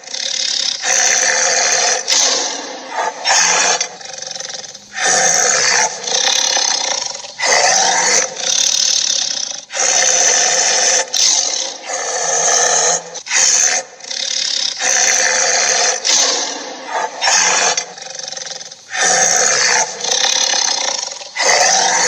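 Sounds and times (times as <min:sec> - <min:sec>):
dinosaur roars: 0:00.0 - 0:22.0.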